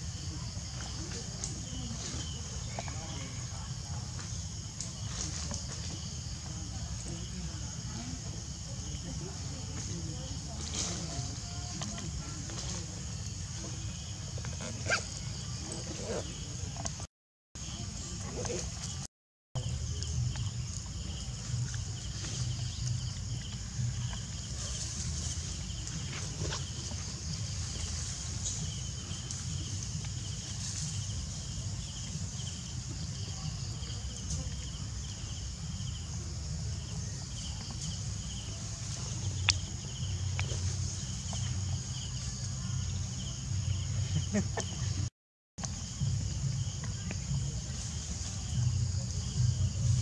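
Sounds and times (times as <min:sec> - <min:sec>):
insect chirps: 0:00.0 - 0:50.0
insect drone: 0:00.0 - 0:50.0.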